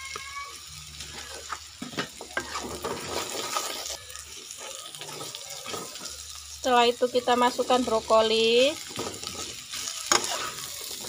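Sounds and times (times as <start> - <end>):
food sizzling in hot oil: 0.0 - 11.0
metal spatula scraping wok: 1.0 - 6.1, 7.0 - 11.0.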